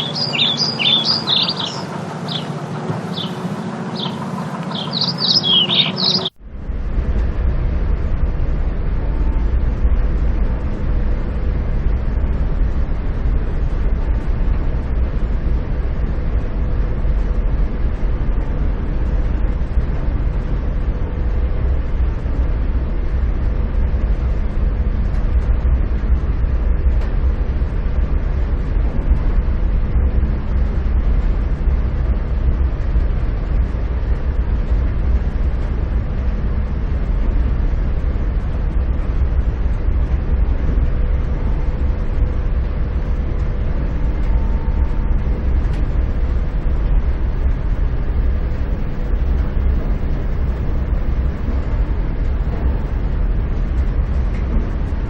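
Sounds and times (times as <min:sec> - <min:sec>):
faint constant hum: 0:00.0 - 0:55.0
vehicle running low rumble: 0:00.0 - 0:55.0.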